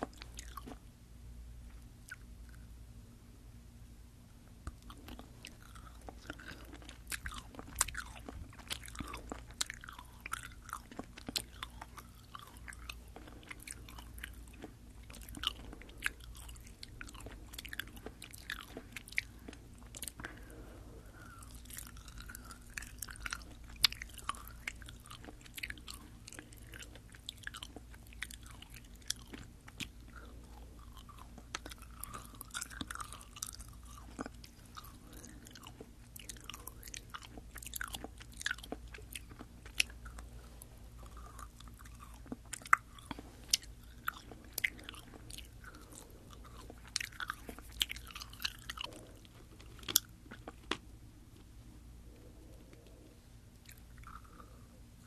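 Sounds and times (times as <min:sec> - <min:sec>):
chewing gummy candy: 0:00.0 - 0:00.9, 0:01.8 - 0:02.7, 0:04.6 - 0:55.0.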